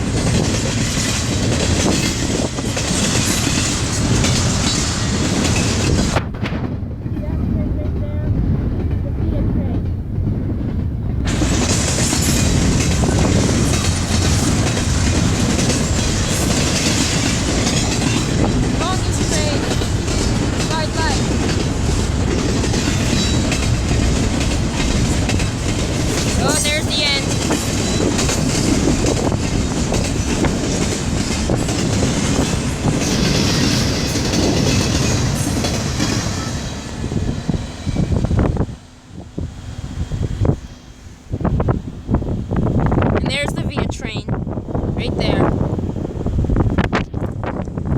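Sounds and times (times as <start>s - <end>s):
freight train wheels on rails: 0.0s - 47.9s.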